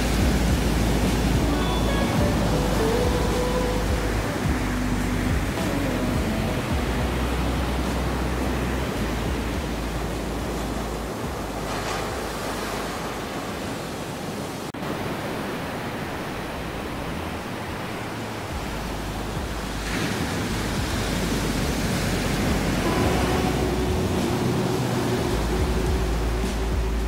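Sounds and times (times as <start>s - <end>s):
waves breaking on shore: 0.0s - 27.0s.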